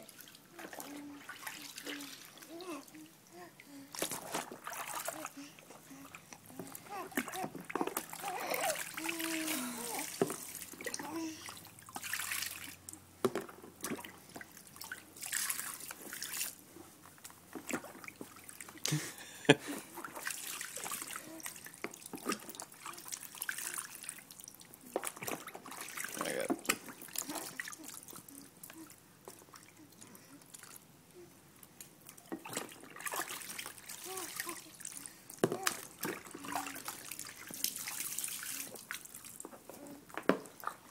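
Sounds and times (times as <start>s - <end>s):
bathwater dripping and splashing: 0.0s - 30.9s, 31.6s - 40.9s.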